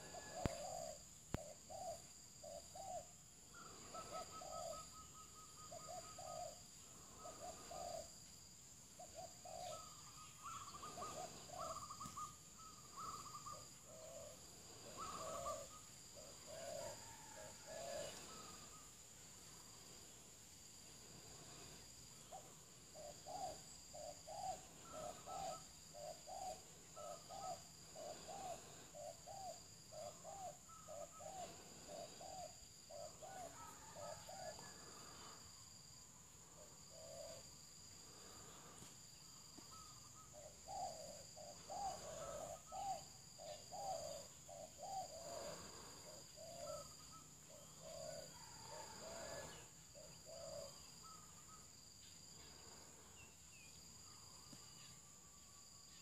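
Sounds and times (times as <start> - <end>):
bird hooting: 0.0 - 8.2, 9.0 - 18.9, 21.0 - 35.4, 36.5 - 37.5, 39.6 - 51.7
insects trilling: 0.0 - 56.0.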